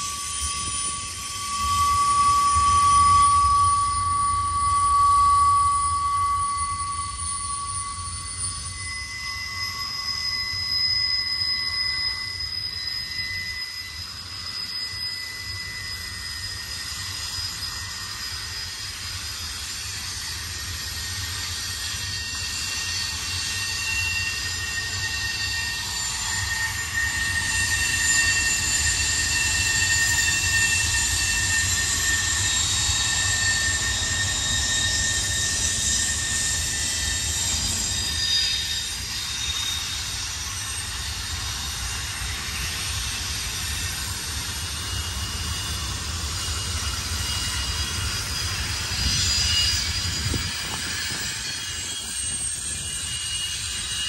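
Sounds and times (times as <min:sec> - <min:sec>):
train rumble: 0:00.0 - 0:54.0
train wheels squealing on rails: 0:00.0 - 0:54.0.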